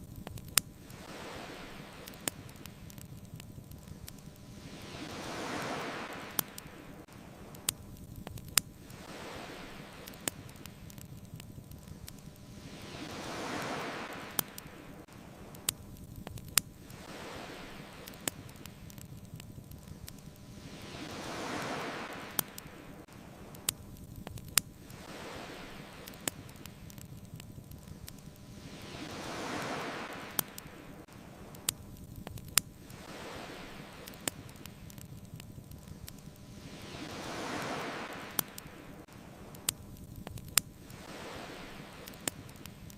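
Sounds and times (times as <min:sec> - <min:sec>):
ocean waves washing in: 0:00.0 - 0:42.9
wood fire popping and crackling: 0:00.0 - 0:42.9.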